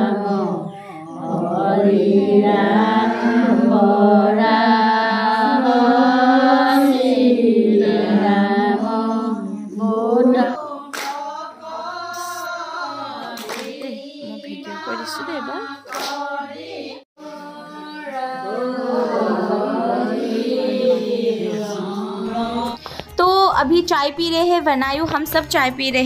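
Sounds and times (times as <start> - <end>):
women singing a prayer chant: 0.0 - 22.8.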